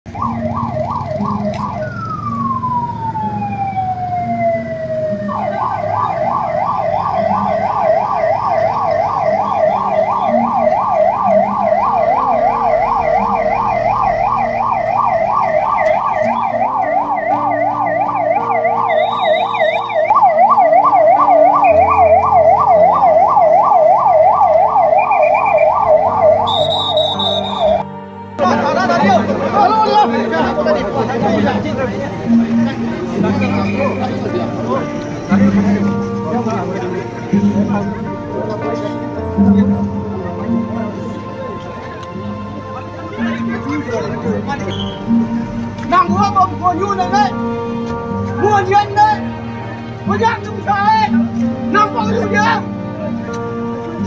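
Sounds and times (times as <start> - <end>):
ambulance siren: 0.0 - 54.0.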